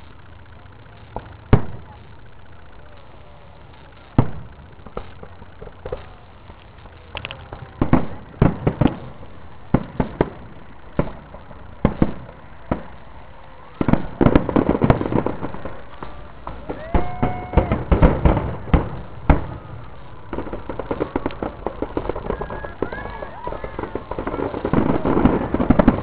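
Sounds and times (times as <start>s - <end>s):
firework shells bursting: 0.0s - 26.0s.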